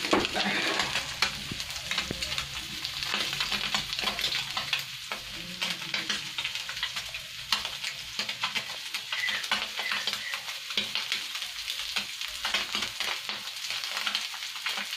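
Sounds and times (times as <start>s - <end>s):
oil sizzling and popping: 0.0s - 14.9s.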